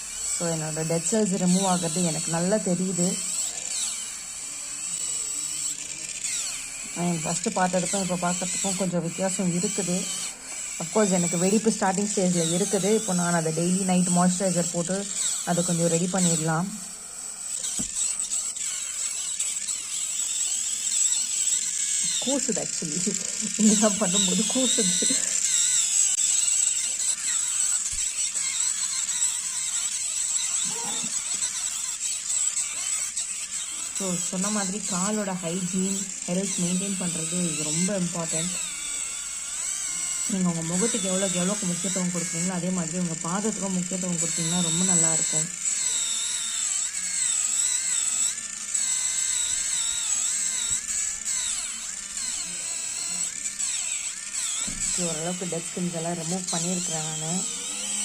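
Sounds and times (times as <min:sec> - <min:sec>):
electric callus remover whirring: 0:00.0 - 0:58.0.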